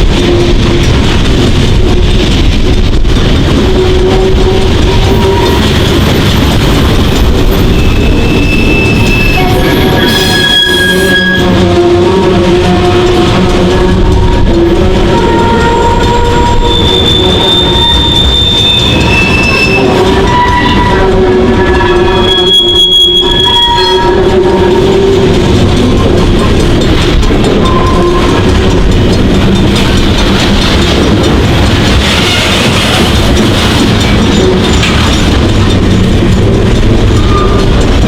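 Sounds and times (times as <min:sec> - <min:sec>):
freight train rumbling past: 0:00.0 - 0:38.0
wheels squealing against rails: 0:03.5 - 0:38.0.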